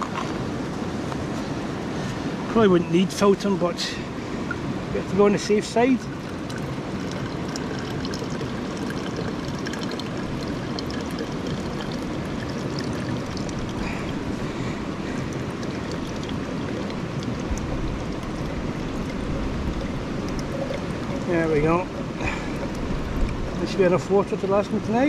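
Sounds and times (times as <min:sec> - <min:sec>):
stream running over rocks: 0:00.0 - 0:25.0.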